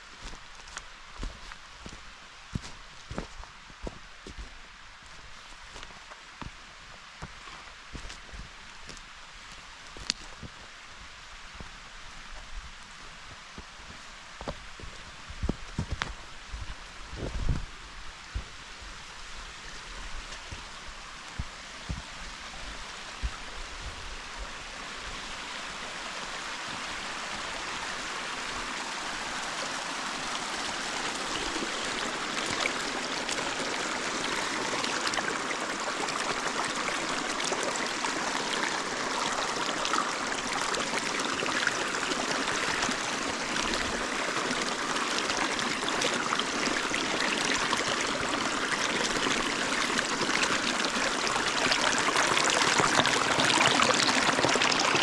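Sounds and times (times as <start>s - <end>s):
running water rushing: 5.1s - 55.0s.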